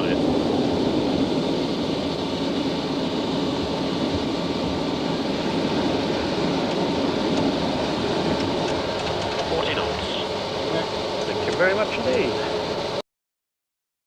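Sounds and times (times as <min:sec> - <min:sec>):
cockpit rumble of landing jet: 0:00.0 - 0:13.0.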